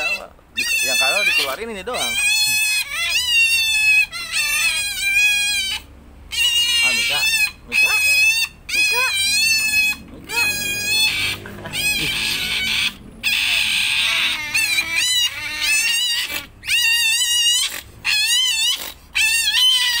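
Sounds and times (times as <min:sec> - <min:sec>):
otters squealing: 0:00.0 - 0:20.0.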